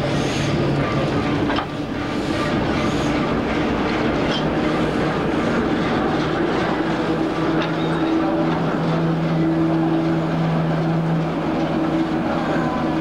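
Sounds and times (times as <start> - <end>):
railway coaches rolling past: 0.0 - 13.0
wheels clicking over rail joints: 0.6 - 13.0.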